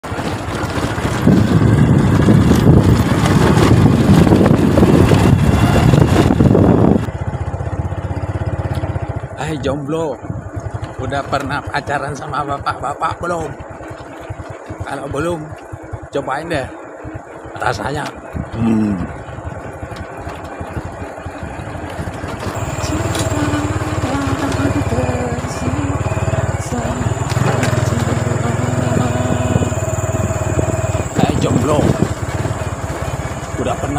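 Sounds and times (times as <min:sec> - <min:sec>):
wind buffeting microphone: 0:00.0 - 0:11.7, 0:17.0 - 0:33.9
motorcycle engine running: 0:00.0 - 0:33.9.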